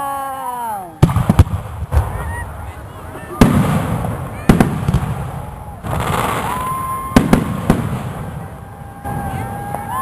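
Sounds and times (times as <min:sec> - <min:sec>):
fireworks bangs: 0:01.0 - 0:10.0
high whistling fireworks: 0:01.0 - 0:10.0
fireworks crackling hiss: 0:01.1 - 0:10.0.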